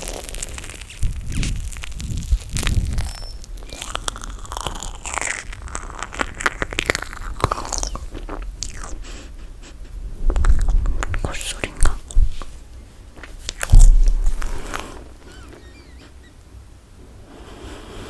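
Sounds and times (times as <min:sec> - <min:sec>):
sticky mouth clicks: 0:00.0 - 0:09.1, 0:10.3 - 0:12.6, 0:13.2 - 0:16.3
chewing marshmallow: 0:00.0 - 0:16.3.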